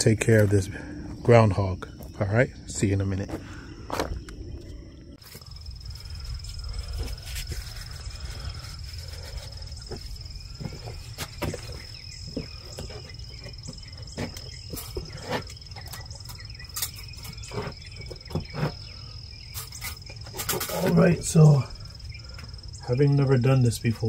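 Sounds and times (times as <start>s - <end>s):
high insect trill: 0.0s - 24.0s.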